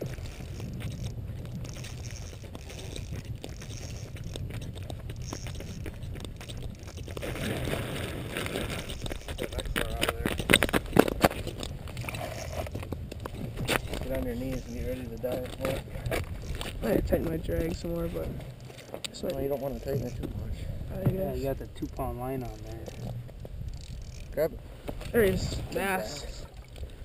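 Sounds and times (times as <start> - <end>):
crunching scraping handling noise: 0.0 - 25.4
wind rumble on microphone: 0.0 - 27.0.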